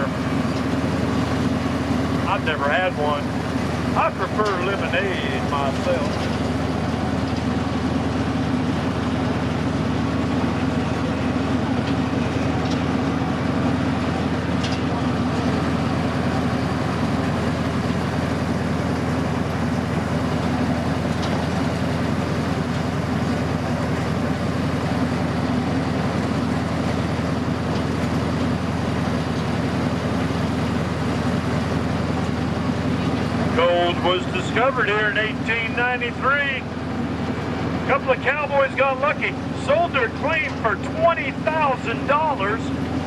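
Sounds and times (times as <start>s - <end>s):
train running on track: 0.0s - 43.0s.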